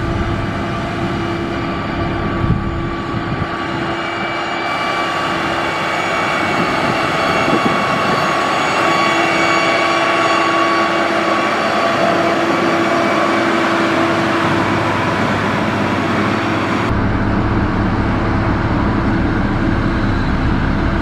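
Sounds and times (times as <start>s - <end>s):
heavy diesel machinery running: 0.0s - 21.0s
held whine and hum: 0.0s - 21.0s.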